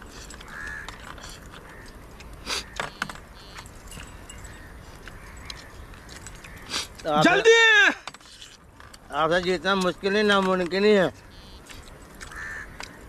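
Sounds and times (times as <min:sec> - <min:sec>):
clinks of eating from plastic plates: 0:00.0 - 0:07.2, 0:08.0 - 0:13.0.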